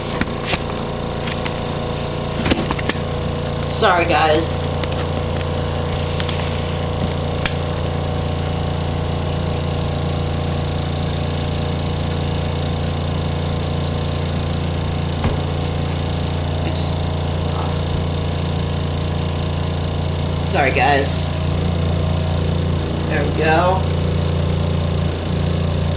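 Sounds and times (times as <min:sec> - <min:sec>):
spin dryer motor humming: 0:00.0 - 0:25.9.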